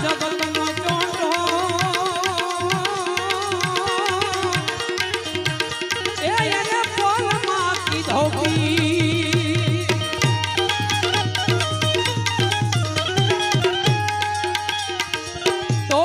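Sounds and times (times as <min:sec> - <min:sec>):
tabla playing: 0:00.0 - 0:16.0.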